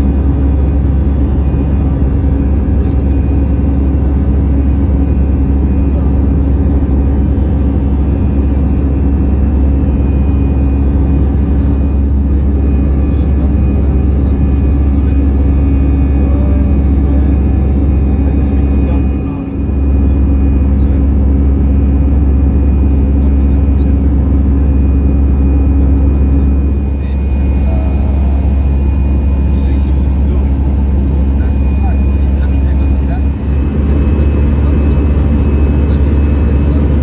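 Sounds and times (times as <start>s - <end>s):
aircraft cabin rumble: 0.0s - 37.0s
humming tones: 0.0s - 37.0s.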